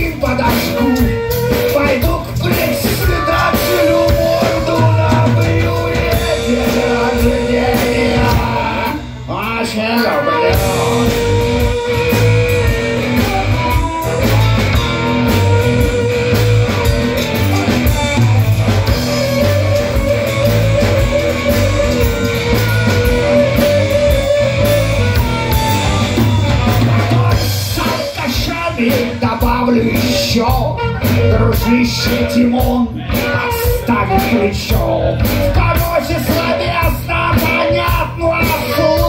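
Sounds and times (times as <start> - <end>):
harmonica long held notes: 0.0 - 9.4, 10.0 - 35.7
live rock band playing: 0.0 - 39.0.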